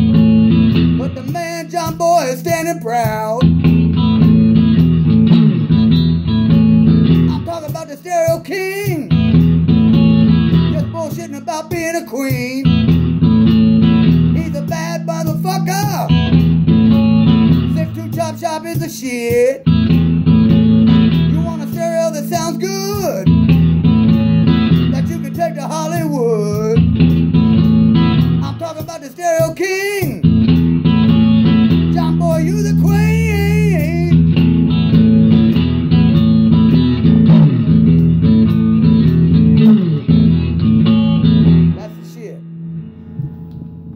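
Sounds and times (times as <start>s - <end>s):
blues electric guitar: 0.0s - 43.9s.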